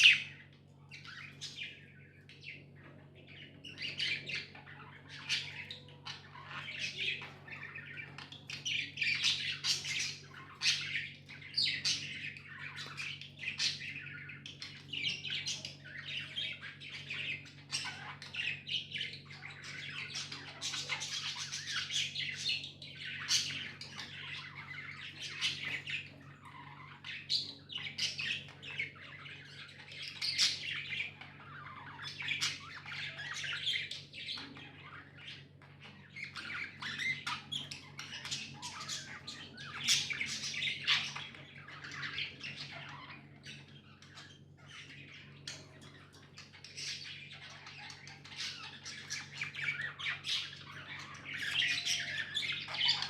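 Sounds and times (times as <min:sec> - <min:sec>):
budgerigars chattering: 0:00.0 - 0:53.0.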